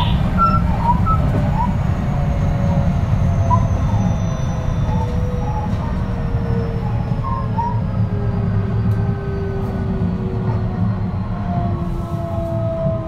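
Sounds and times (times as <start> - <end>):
train equipment low rumble: 0.0 - 13.0.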